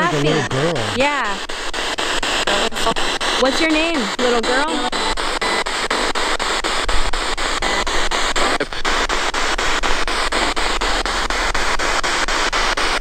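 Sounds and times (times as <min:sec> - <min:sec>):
radio static: 0:00.0 - 0:13.0.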